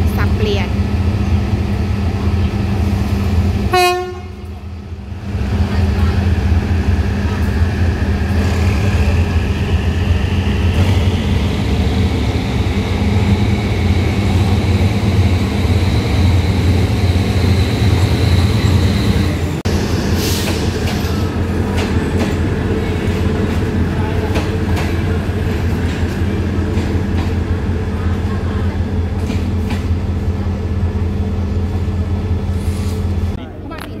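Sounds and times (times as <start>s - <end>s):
locomotive engine drone: 0.0s - 34.0s.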